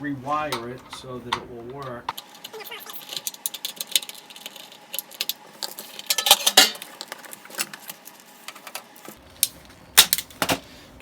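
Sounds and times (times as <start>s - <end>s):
plastic and metal parts clattering: 0.5s - 10.7s.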